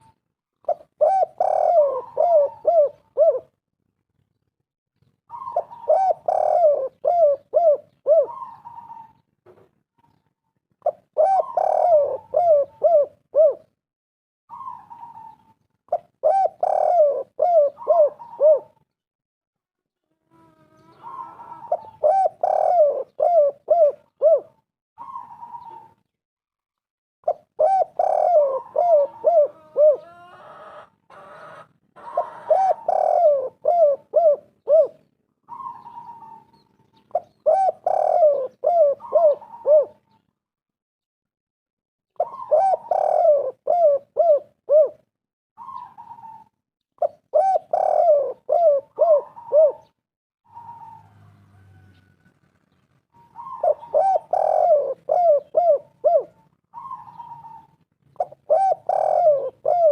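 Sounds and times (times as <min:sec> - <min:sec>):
dove cooing: 0:00.0 - 0:03.6, 0:05.3 - 0:13.8, 0:14.5 - 0:18.9, 0:20.0 - 0:26.1, 0:27.3 - 0:40.2, 0:42.2 - 0:59.9.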